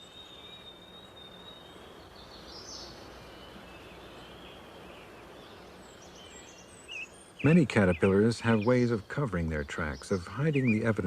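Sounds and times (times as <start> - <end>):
bird chirps: 0.0 - 11.0.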